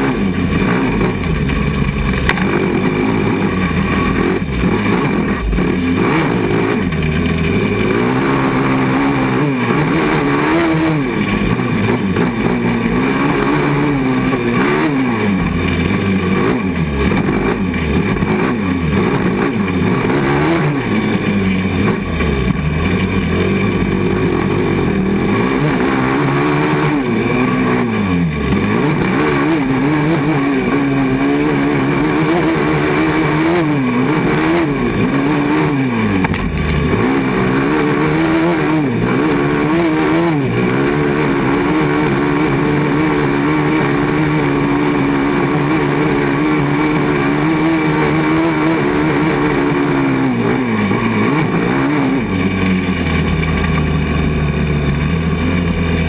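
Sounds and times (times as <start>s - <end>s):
quad engine revving: 0.0s - 56.0s.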